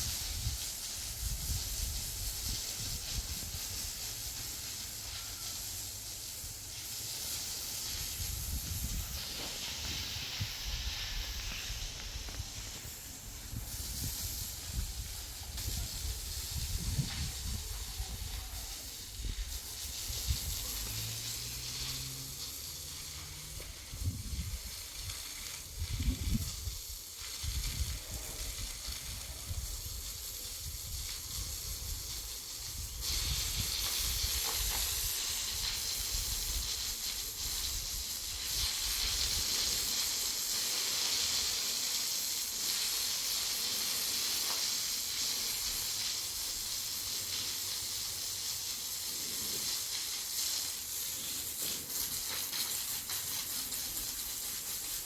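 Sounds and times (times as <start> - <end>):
steady hissing noise: 0.0 - 55.0.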